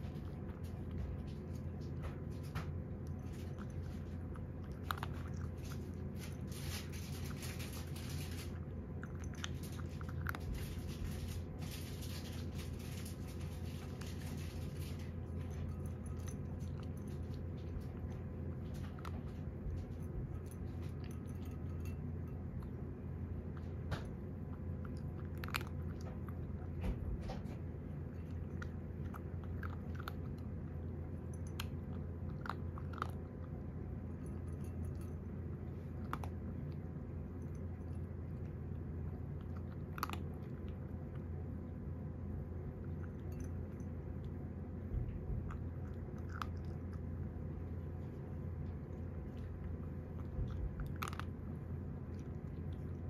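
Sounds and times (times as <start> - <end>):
cat crunching dry kibble: 0.0 - 53.0
steady low hum: 0.0 - 53.0.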